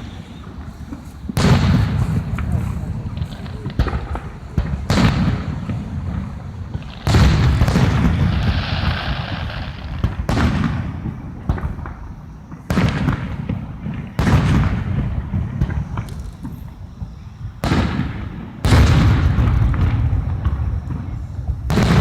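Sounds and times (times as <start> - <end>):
fireworks bangs with rumbling echo: 0.0 - 22.0.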